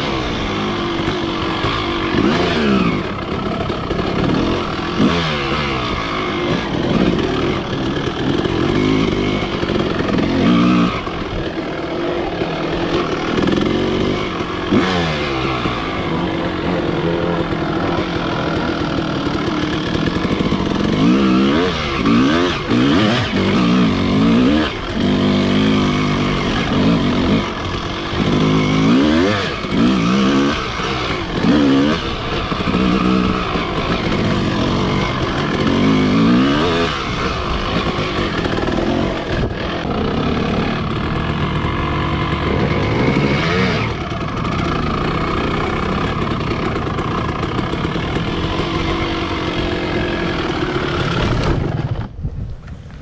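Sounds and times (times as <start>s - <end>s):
dirt bike engine revving: 0.0s - 52.2s.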